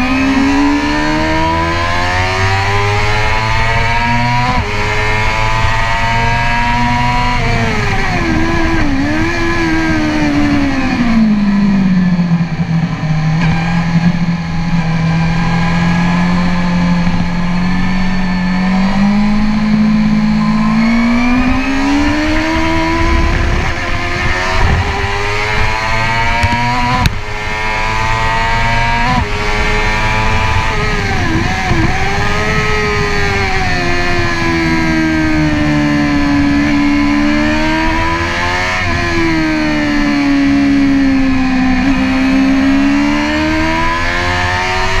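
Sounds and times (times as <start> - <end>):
motorcycle engine shifting gears: 0.0 - 45.0.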